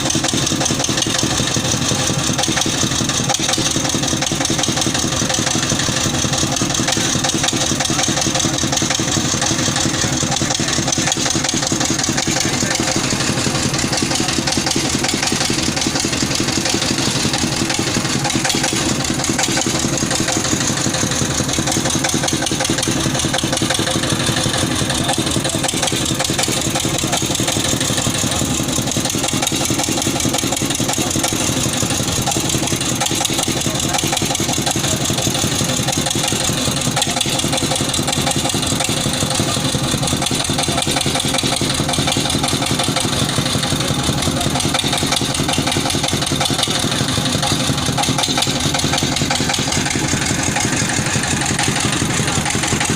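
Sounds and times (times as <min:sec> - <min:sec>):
boring machine engine running: 0:00.0 - 0:52.9.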